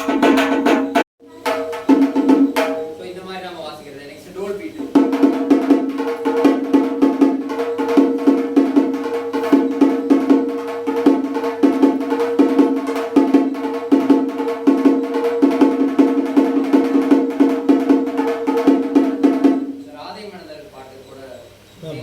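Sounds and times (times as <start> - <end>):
frame drum beaten with sticks: 0.0 - 3.8, 4.5 - 20.5.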